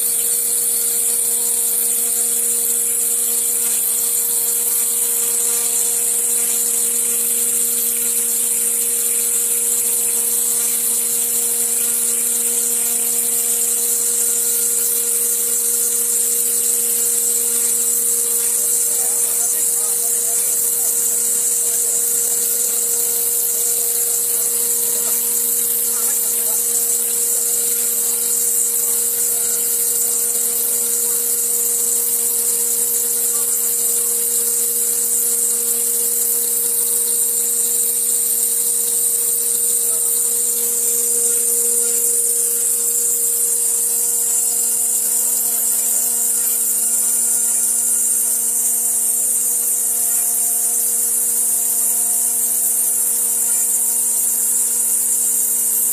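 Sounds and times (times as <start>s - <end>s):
router spindle motor whine: 0.0s - 55.9s
water coolant hiss: 0.0s - 55.9s.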